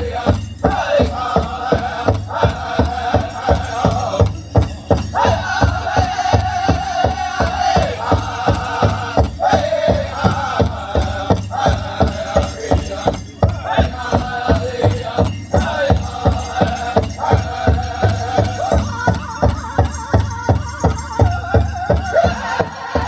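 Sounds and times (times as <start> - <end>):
high-pitched group chant: 0.0 - 4.2, 5.2 - 19.8, 21.5 - 23.0
big drum beating fast: 0.0 - 23.0.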